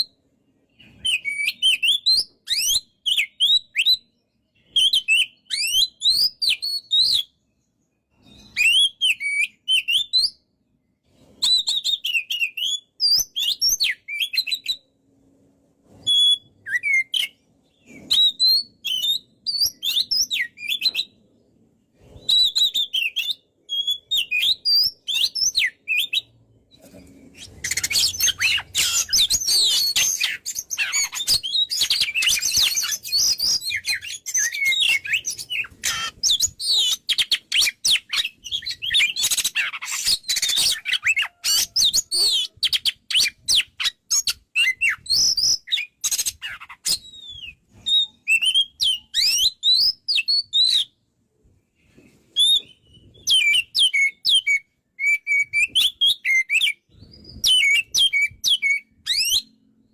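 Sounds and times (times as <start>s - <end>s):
bird singing whistled notes: 0.0s - 10.4s, 11.4s - 15.0s, 16.0s - 21.5s, 22.1s - 51.0s, 52.4s - 59.9s.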